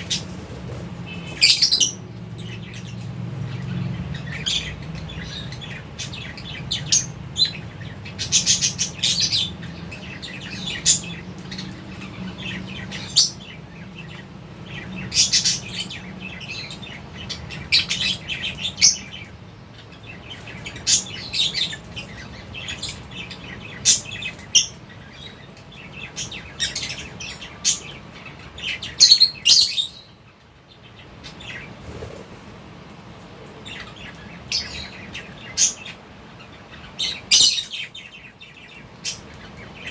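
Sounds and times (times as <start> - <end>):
flock of birds chirping: 0.0 - 39.9
low steady hum: 0.0 - 39.9.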